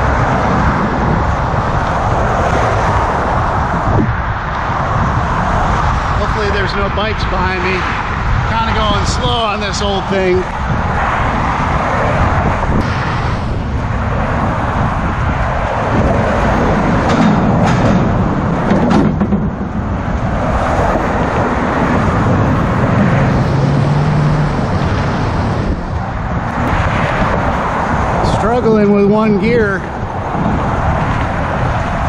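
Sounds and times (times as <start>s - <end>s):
road traffic passing: 0.0s - 32.0s.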